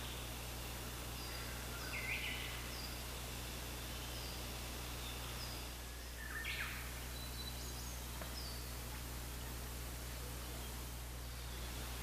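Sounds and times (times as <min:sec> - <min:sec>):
wild birds singing: 0:00.0 - 0:12.0.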